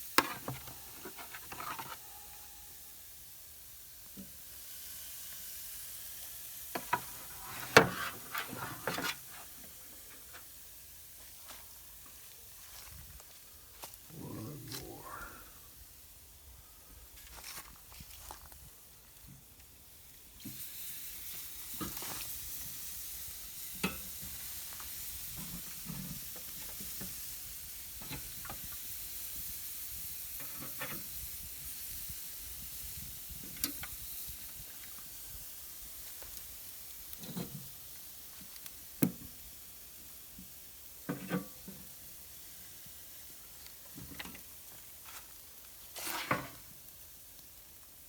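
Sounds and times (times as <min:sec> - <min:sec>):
meat sizzling over hot coals: 0:00.0 - 0:15.2, 0:15.8 - 0:48.0.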